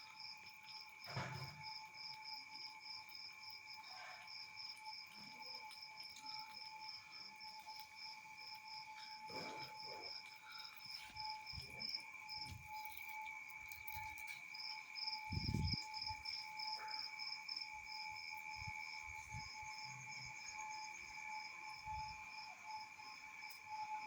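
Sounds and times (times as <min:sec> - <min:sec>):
cricket chirping: 0:00.0 - 0:24.0.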